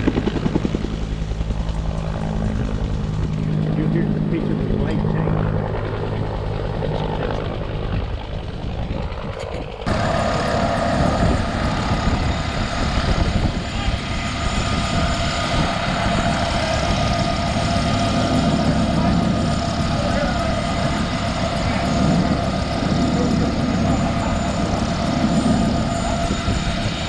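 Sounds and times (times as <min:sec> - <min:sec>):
helicopter engine and rotor: 0:00.0 - 0:27.0.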